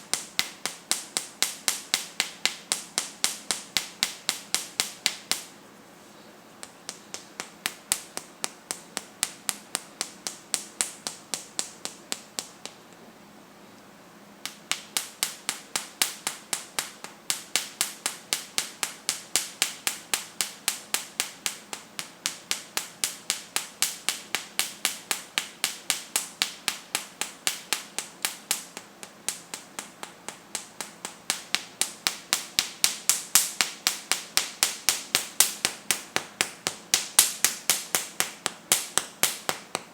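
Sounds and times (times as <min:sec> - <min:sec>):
palm patting chest: 0:00.0 - 0:13.0, 0:14.4 - 0:39.9.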